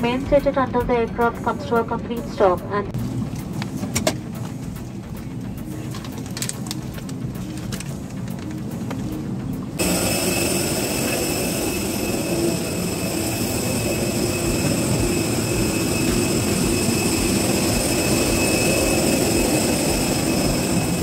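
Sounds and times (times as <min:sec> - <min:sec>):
jet aircraft whine: 0:00.0 - 0:21.0.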